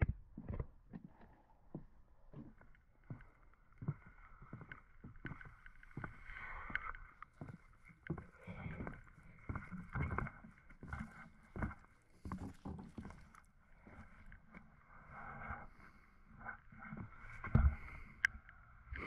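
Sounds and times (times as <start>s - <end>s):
footsteps on wooden planks: 0.0s - 18.1s.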